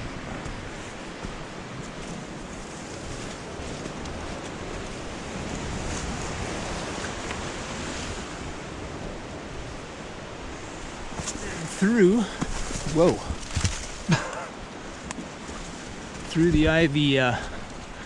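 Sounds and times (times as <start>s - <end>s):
ocean surf washing into cove: 0.0s - 18.0s
wind buffeting microphone: 0.0s - 18.0s.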